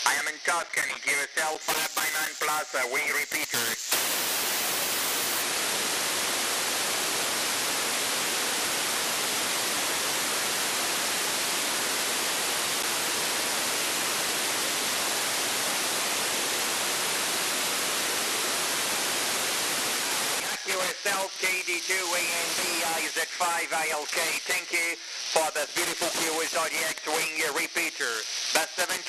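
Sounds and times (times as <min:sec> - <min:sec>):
radio receiver white noise hiss: 0:00.0 - 0:29.0.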